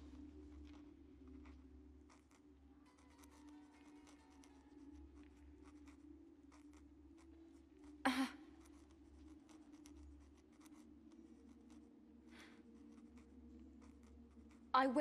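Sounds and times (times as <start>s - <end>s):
pen nib scratching on paper: 0.5s - 14.7s.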